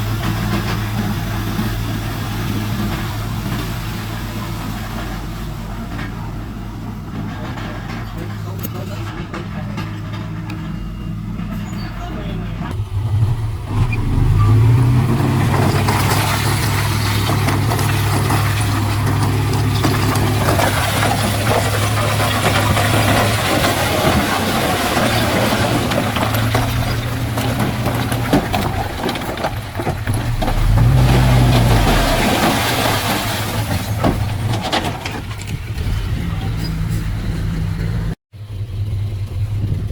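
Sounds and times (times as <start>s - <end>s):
rattling and clanking: 0.0s - 38.2s
heavy machinery diesel engine running: 0.0s - 39.9s.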